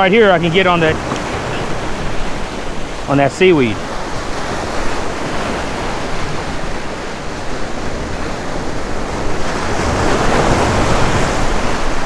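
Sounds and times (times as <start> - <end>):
surf breaking over rocks: 0.0 - 12.0.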